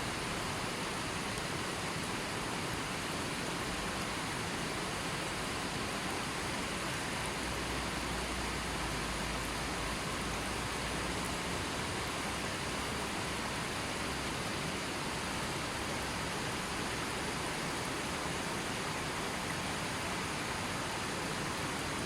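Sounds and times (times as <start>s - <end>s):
babbling river stream: 0.0s - 22.0s.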